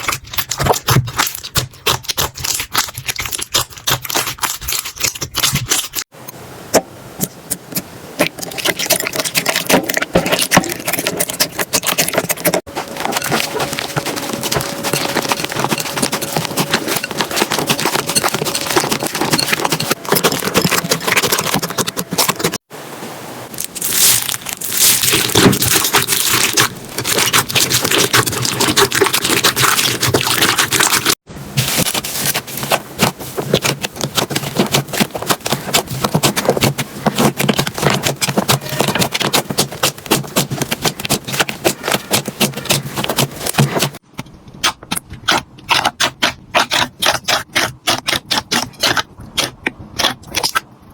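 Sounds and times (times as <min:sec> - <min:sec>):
slime crackling and squishing: 0:00.0 - 0:06.1, 0:08.2 - 0:22.7, 0:23.5 - 0:44.0, 0:44.6 - 0:50.7.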